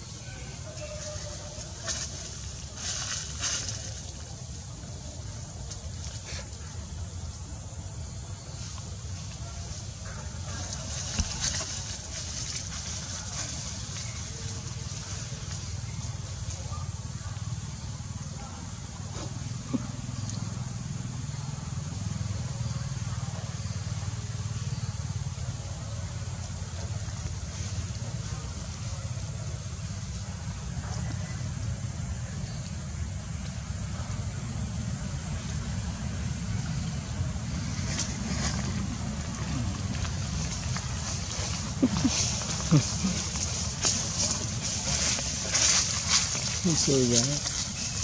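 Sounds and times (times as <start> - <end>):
outdoor background rumble and hiss: 0.0 - 48.0.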